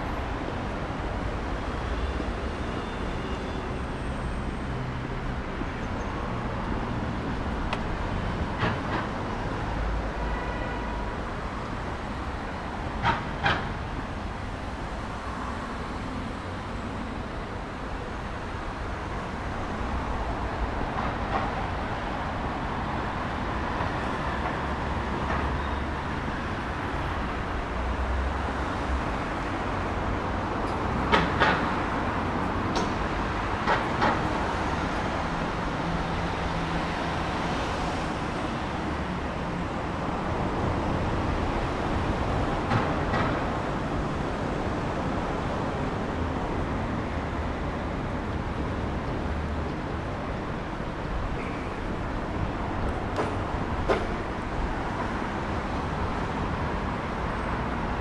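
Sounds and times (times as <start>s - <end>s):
rumble of passing vehicles: 0.0s - 58.0s.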